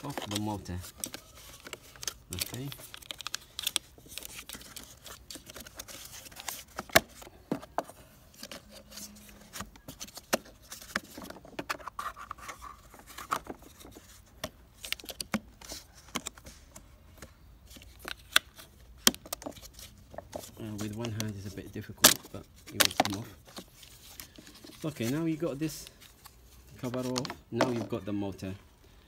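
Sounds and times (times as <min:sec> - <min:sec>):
plastic cover clicking and scraping: 0:00.0 - 0:28.0.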